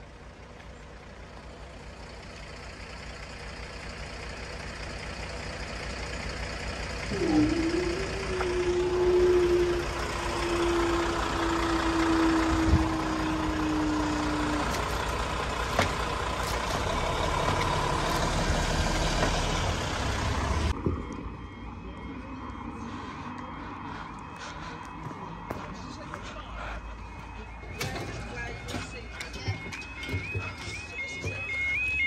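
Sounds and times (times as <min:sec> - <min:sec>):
diesel train engine: 0:00.0 - 0:32.0
falling engine tone: 0:02.5 - 0:32.0.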